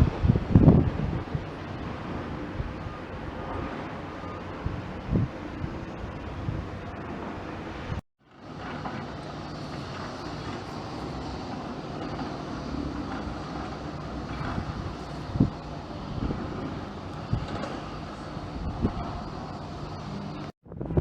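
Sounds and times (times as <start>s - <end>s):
aircraft engine noise: 0.0s - 21.0s.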